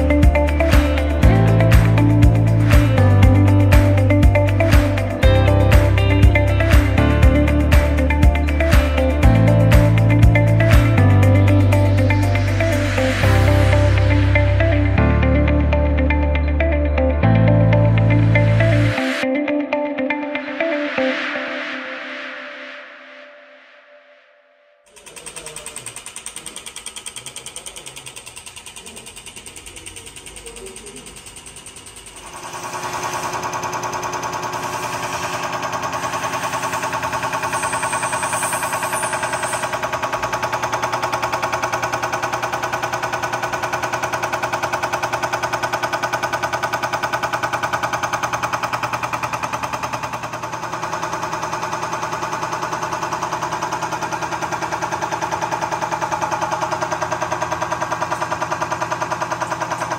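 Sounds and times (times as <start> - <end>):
machine hum: 0.0 - 19.1, 24.9 - 59.9.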